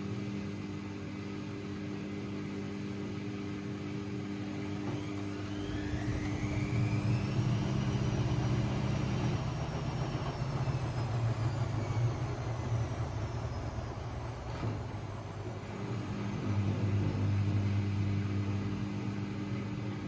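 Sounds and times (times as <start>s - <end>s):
washing machine spinning up: 0.0s - 20.0s.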